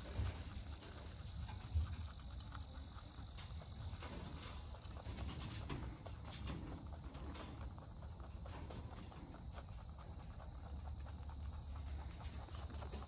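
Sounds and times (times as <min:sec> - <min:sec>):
rabbit chewing leaves: 0:00.0 - 0:13.0.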